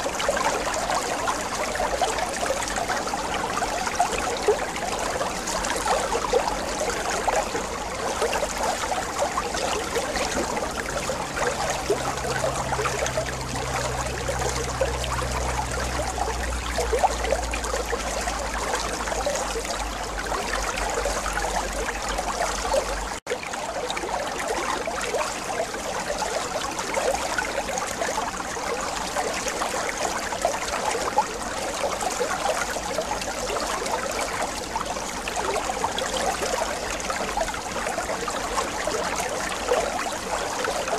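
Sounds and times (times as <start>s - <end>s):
aquarium water trickling and bubbling: 0.0s - 40.9s.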